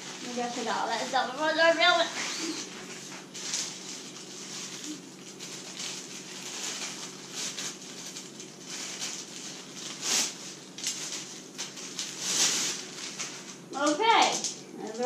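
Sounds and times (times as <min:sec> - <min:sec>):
nylon fabric rustling: 0:00.0 - 0:13.9.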